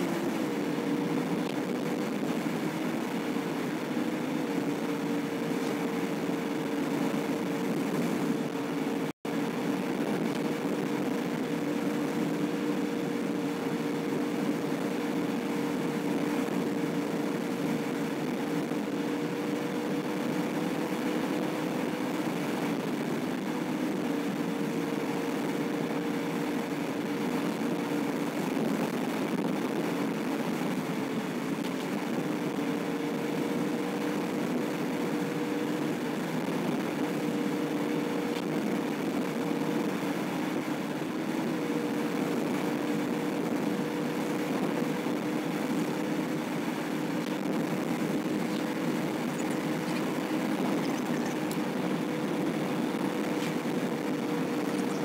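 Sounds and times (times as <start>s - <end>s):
engine hum inside vehicle: 0.0s - 55.0s
road and tyre noise: 0.0s - 55.0s.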